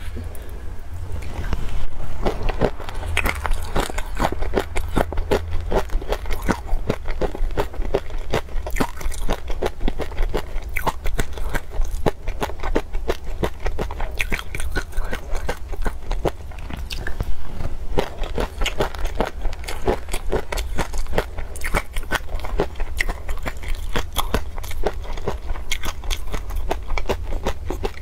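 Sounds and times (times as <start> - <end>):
chewing and crunching peanuts: 1.2 - 28.0.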